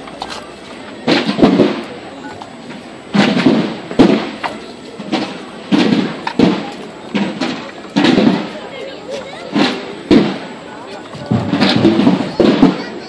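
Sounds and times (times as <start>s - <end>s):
drums beating a slow march: 0.0s - 13.0s.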